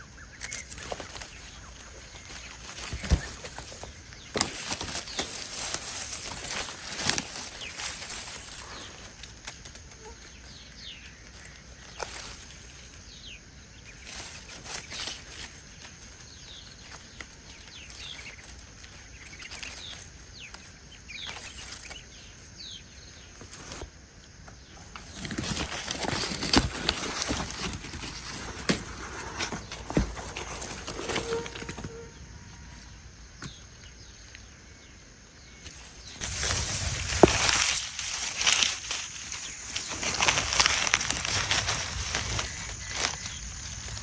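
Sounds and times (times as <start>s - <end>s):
rustling and crackling: 0.0s - 34.5s, 35.4s - 44.0s.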